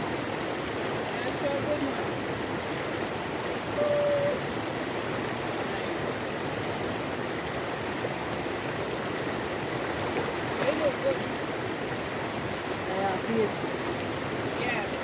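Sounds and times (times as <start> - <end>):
river water over waterfall: 0.0 - 15.0.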